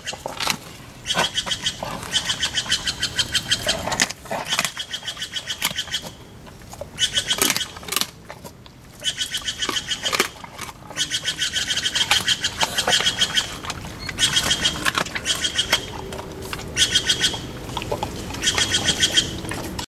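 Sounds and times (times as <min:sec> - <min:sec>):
hyaena crunching bone: 0:00.0 - 0:19.8.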